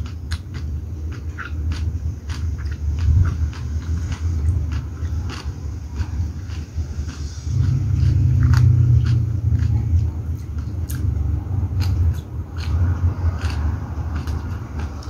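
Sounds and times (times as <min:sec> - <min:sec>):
chewing and mouth clicks: 0:00.0 - 0:15.0
steady low rumble: 0:00.0 - 0:15.0.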